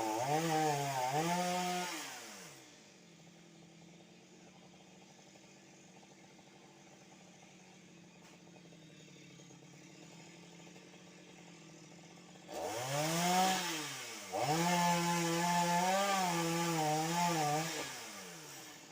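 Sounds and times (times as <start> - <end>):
chainsaw engine idling and revving: 0.0 - 18.9.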